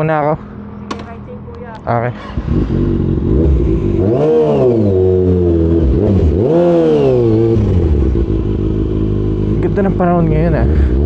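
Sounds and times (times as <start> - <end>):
motorcycle engine revving: 0.4 - 11.0.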